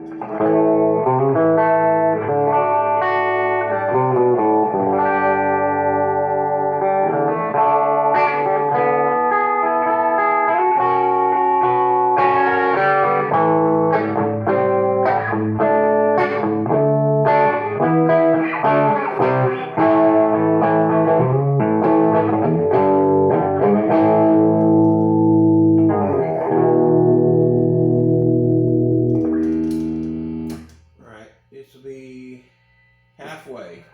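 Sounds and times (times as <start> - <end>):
electric guitar chords and notes: 0.0 - 31.0.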